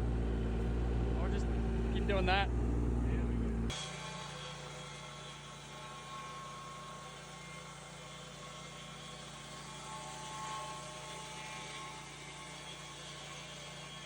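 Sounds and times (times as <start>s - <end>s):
steady motor hum: 0.0s - 14.0s
steady whining tones: 0.0s - 14.0s.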